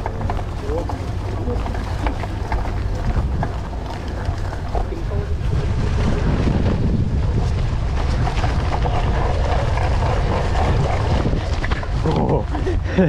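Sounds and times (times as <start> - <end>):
bike rattling: 0.0 - 13.0
bike tyre noise on dirt: 0.0 - 13.0
wind rumbling on microphone: 0.0 - 13.0.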